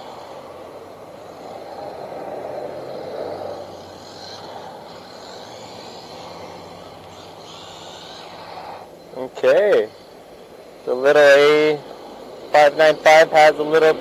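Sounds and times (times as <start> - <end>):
outdoor rumble: 0.0 - 14.0
rc car electric motor whining: 0.0 - 14.0.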